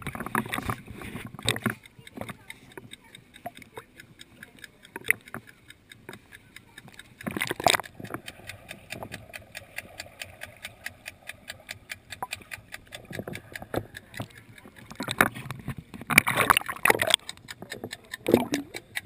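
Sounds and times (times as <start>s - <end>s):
muffled underwater noise: 0.0s - 19.0s
pool water lapping: 0.0s - 19.0s
rapid even ticking: 0.0s - 19.0s.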